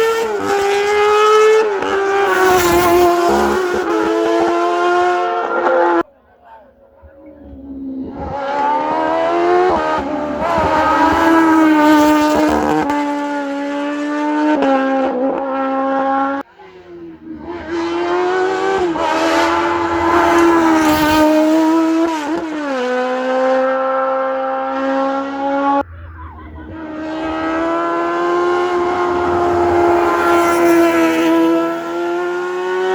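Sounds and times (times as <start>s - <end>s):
race car engines at high revs: 0.0s - 6.0s, 7.0s - 32.9s.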